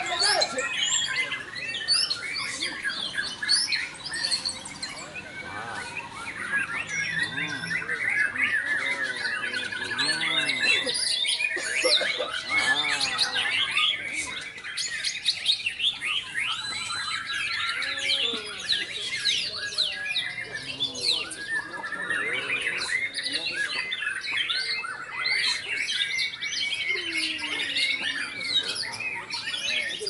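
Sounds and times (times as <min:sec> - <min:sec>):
birds singing with chirps and trills: 0:00.0 - 0:30.0.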